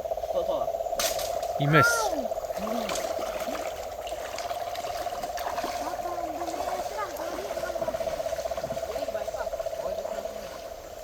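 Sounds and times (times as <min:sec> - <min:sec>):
frog trilling: 0:00.0 - 0:11.0
water trickling faintly: 0:01.3 - 0:11.0.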